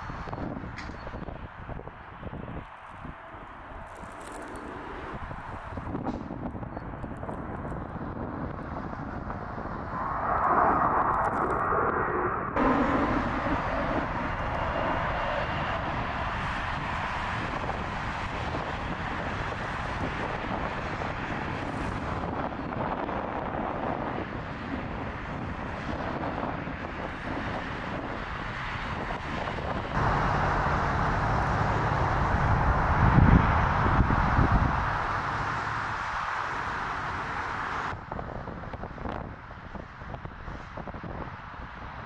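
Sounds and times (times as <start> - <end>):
jet engine climbing overhead: 0.0 - 42.0
jet on runway: 0.0 - 42.0.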